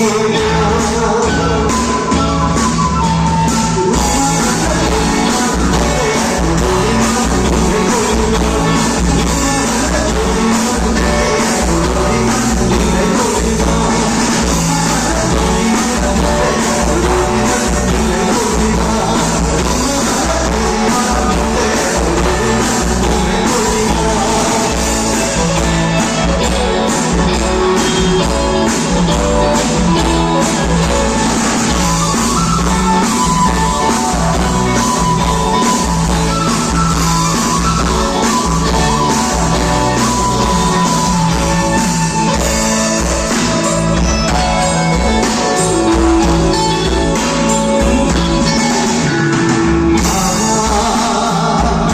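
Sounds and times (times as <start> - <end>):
person singing: 0.0 - 2.8, 3.5 - 51.9
live rock band playing: 0.0 - 51.9.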